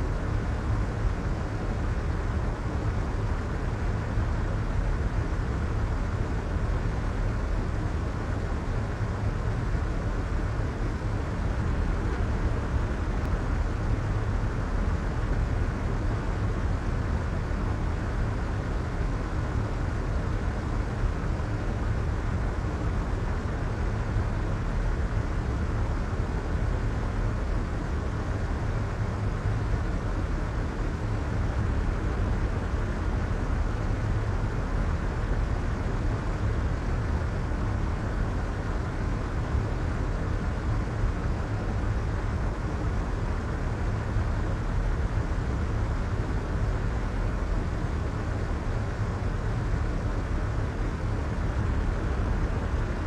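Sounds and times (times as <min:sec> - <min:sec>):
soft white noise: 0:00.0 - 0:53.0.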